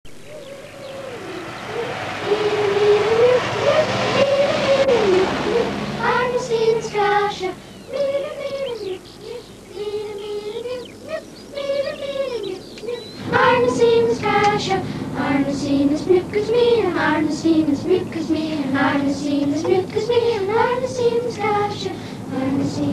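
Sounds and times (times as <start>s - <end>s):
children's choir singing: 0.1s - 22.9s
faint low engine hum: 0.1s - 22.9s.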